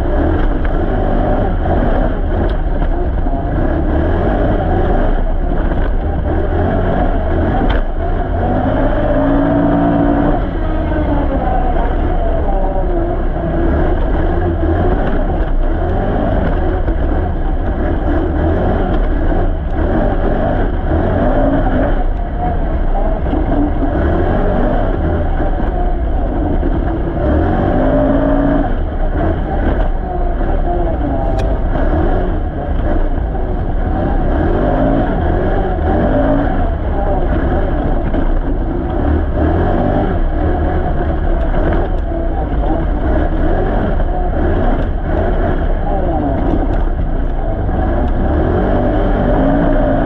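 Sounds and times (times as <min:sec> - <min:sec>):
atv engine revving under load: 0:00.0 - 0:50.0.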